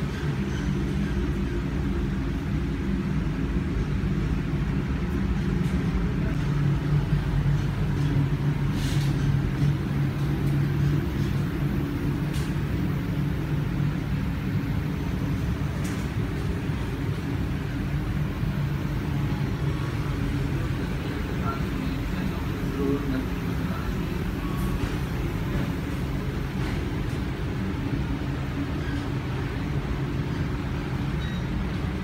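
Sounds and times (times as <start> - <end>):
machinery hum: 0.0 - 32.0.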